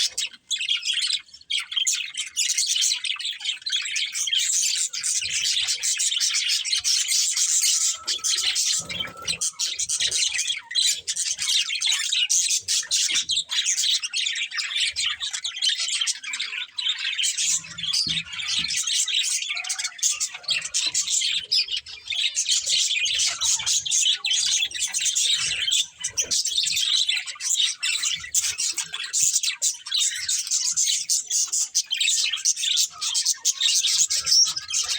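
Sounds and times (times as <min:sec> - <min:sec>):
budgerigars chirping and chattering: 0:00.0 - 0:34.9.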